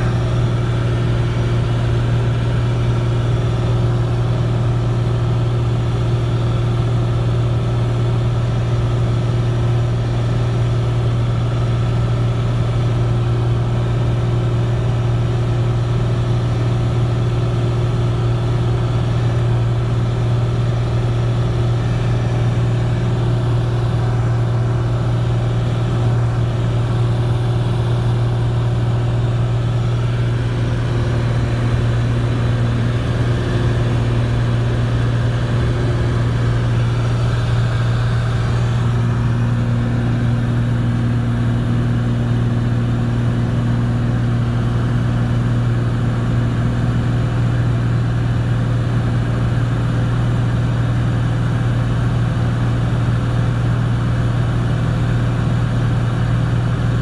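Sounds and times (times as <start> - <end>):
light aircraft engine hum: 0.0 - 57.0.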